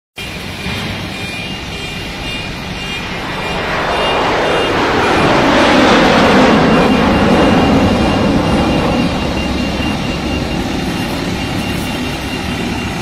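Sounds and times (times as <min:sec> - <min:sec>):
diesel engine rumbling: 0:00.2 - 0:13.0.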